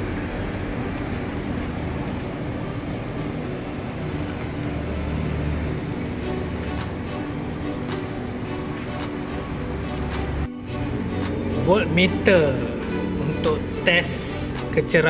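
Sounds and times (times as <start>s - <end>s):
street and traffic noise: 0.0s - 15.0s.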